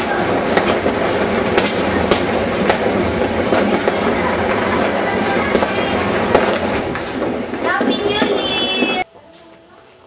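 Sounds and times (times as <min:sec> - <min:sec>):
firework bangs: 0:00.0 - 0:09.0
fireworks crackling: 0:00.0 - 0:10.0.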